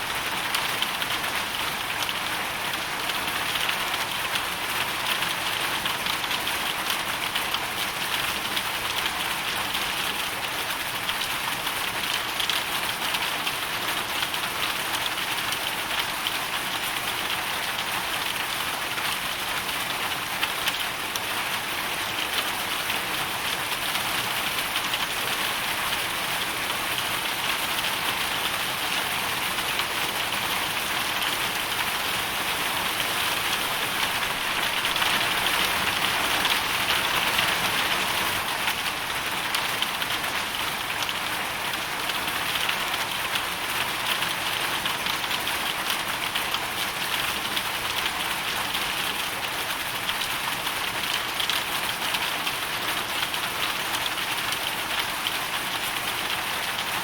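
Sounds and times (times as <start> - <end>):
hail and rain pattering: 0.0 - 57.0.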